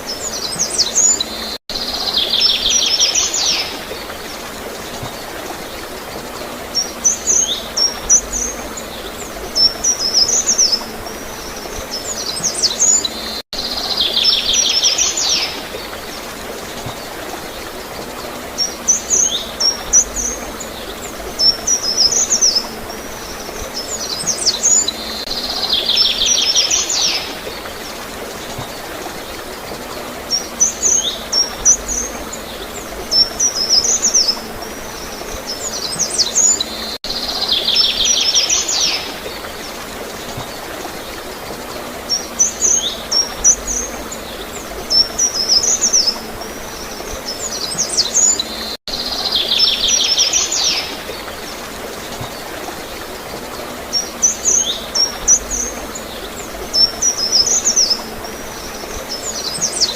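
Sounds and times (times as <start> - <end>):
gurgling water: 0.0 - 59.9
songbirds chirping and trilling: 0.0 - 59.9.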